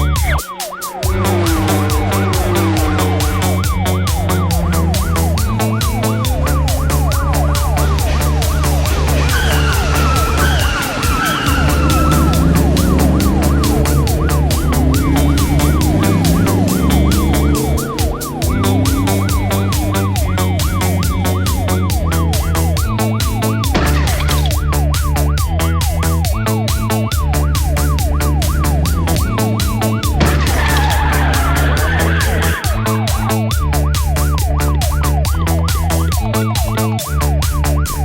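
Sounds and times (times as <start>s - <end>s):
siren-like wail: 0.0s - 35.8s
background music with beat: 0.0s - 38.0s
falling whistle-like glides: 0.2s - 24.7s, 25.4s - 33.4s.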